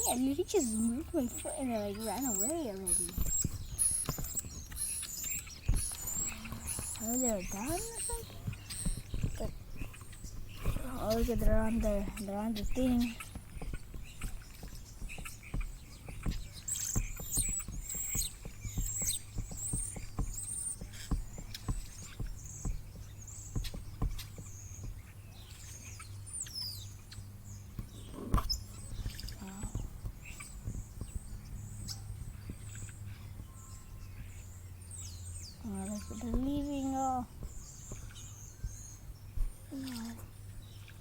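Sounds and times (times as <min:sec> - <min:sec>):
birds chirping: 0:00.0 - 0:41.0
light taps and clicks: 0:00.0 - 0:41.0
steady low hum: 0:00.0 - 0:41.0.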